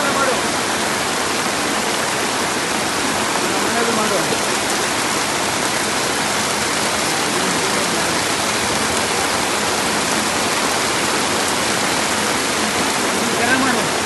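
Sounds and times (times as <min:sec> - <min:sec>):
floodwater rushing: 0:00.0 - 0:14.0
torrential rain: 0:00.0 - 0:14.0.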